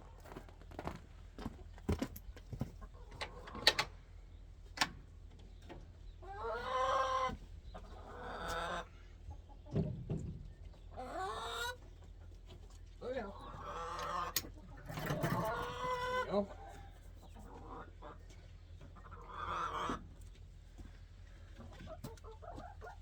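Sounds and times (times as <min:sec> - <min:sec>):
chickens clucking: 0:01.4 - 0:23.0.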